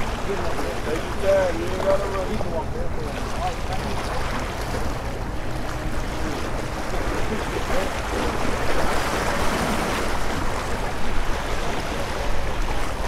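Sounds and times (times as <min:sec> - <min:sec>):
waves splashing over rocks: 0:00.0 - 0:13.0.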